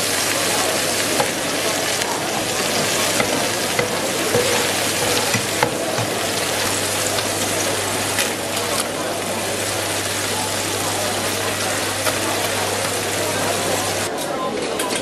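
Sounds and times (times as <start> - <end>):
patties sizzling in a frying pan: 0.0 - 14.1
oil popping and crackling: 0.1 - 14.1.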